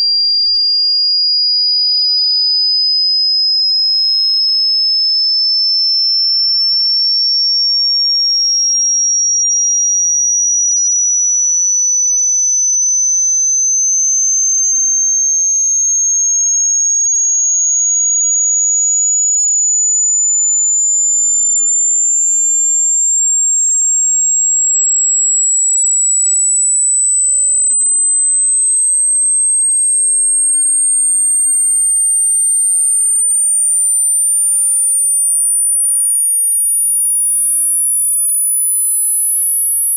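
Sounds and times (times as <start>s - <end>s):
rising high sine tone: 0.0s - 39.9s.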